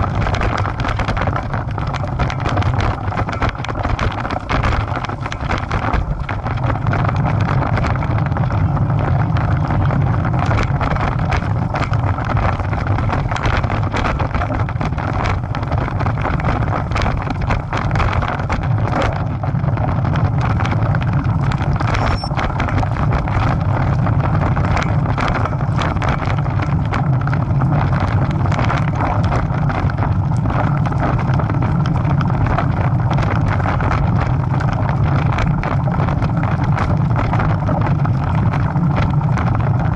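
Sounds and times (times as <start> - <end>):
bike knocks and rattles: 0.0 - 39.9
wind buffeting microphone: 0.0 - 39.9.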